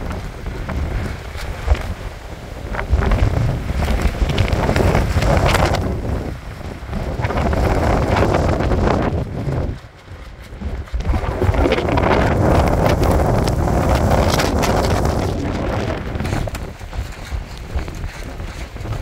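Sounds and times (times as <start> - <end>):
wind gusting across microphone: 0.0 - 19.0.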